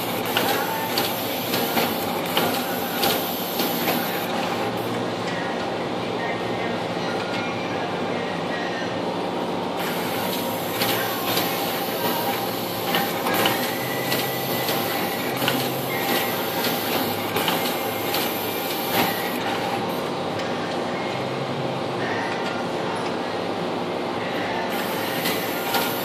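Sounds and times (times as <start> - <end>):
machine mechanical hum: 0.0 - 26.0.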